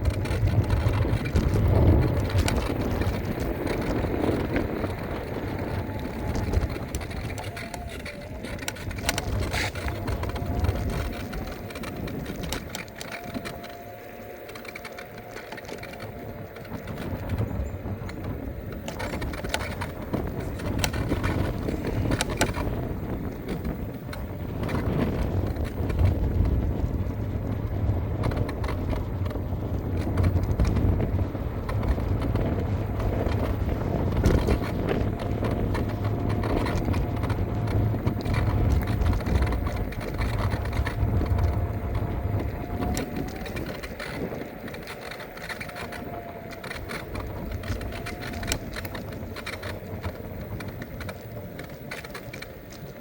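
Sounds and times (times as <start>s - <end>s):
clicks: 0.0s - 26.6s, 30.0s - 53.0s
road rumble: 0.0s - 53.0s
wind buffeting microphone: 0.0s - 53.0s.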